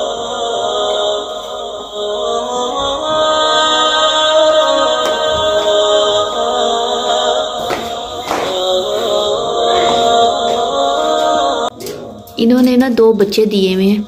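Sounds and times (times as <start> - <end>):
a cappella singing: 0.0 - 13.0.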